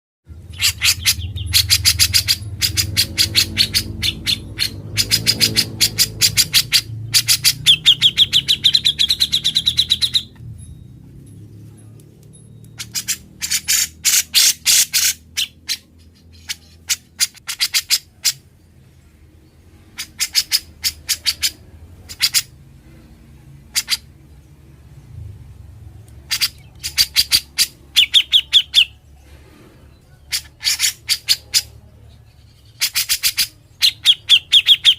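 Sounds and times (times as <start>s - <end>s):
bulbul singing rapid sharp notes: 0.3s - 19.2s, 19.8s - 22.8s, 25.6s - 29.2s, 30.2s - 34.9s
faint low hum: 0.3s - 34.6s.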